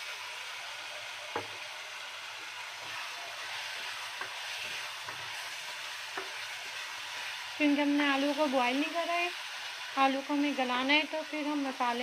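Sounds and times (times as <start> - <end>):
masala sizzling in a pot: 0.0 - 12.0
spatula stirring potatoes: 0.0 - 12.0.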